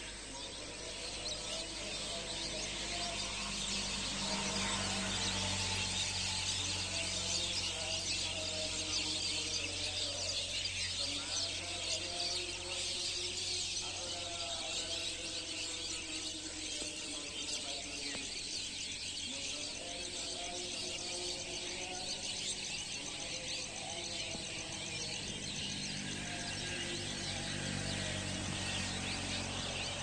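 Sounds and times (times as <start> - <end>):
many small birds twittering: 0.0 - 30.0.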